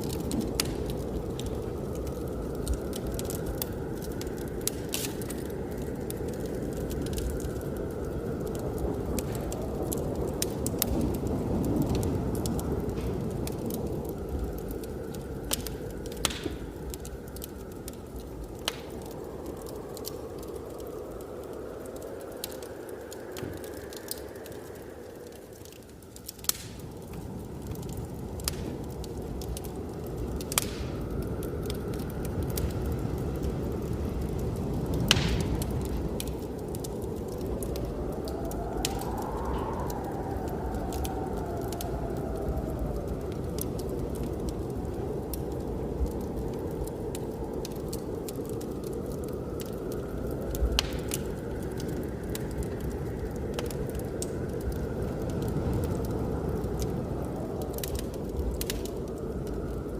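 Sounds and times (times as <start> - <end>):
blizzard wind rushing: 0.0 - 59.9
fire crackling and popping: 0.0 - 59.9
wind howling: 0.0 - 59.9.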